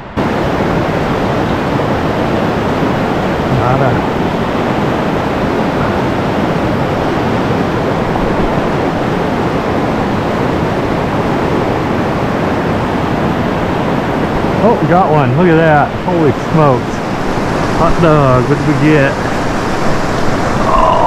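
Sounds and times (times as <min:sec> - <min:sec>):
river water rushing over boulders: 0:00.0 - 0:21.0.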